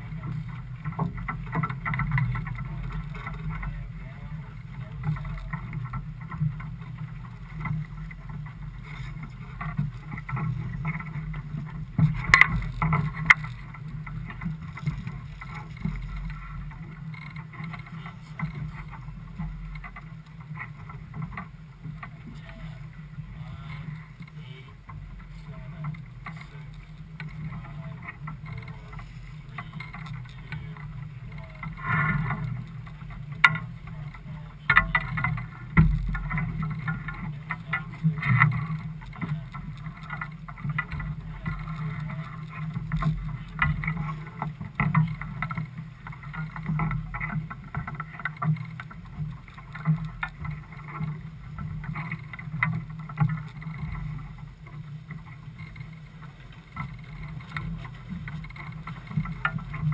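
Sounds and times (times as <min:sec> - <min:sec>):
boat engine running: 0:00.0 - 0:59.9
water noise: 0:00.0 - 0:59.9
wind: 0:00.0 - 0:59.9.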